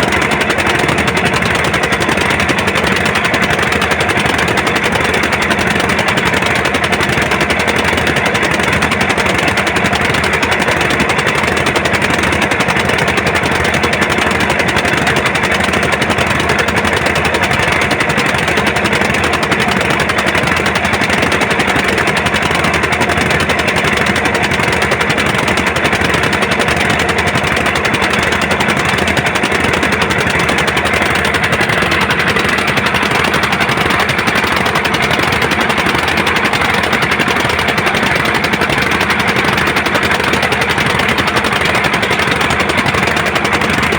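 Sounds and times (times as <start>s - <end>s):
diesel engine clattering: 0.0s - 43.9s.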